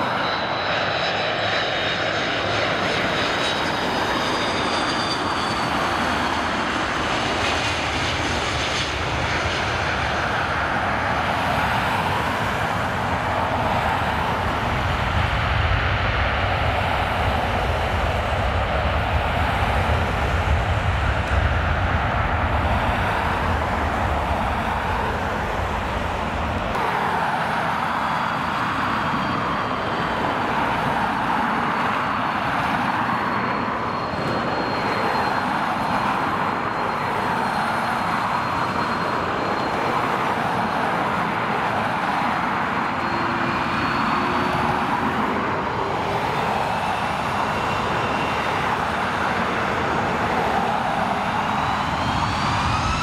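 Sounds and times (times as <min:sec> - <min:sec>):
jet engine rushing and whining: 0:00.0 - 0:53.0.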